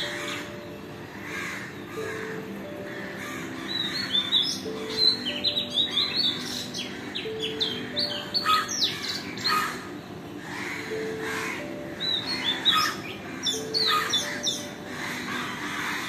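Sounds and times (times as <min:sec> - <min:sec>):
birds chirping in chorus: 0:00.0 - 0:16.0.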